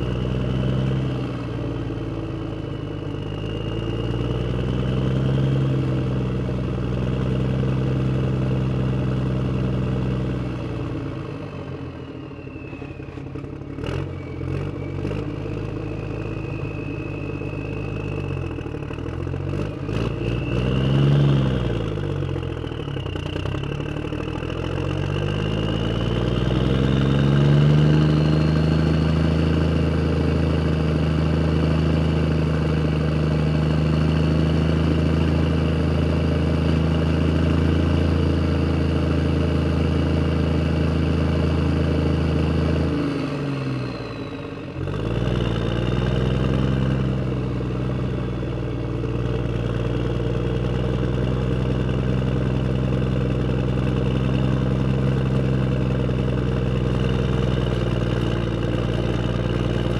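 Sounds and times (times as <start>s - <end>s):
engine revving and idling: 0.0s - 59.9s.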